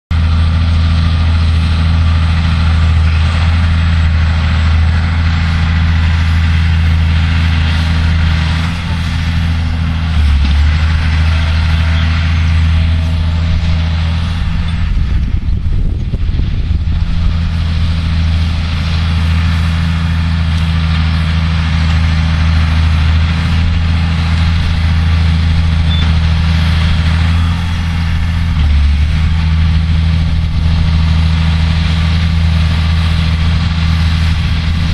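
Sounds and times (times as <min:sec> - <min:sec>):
rough low rumble: 0:00.1 - 0:34.9
tractor diesel engine running: 0:00.1 - 0:34.9.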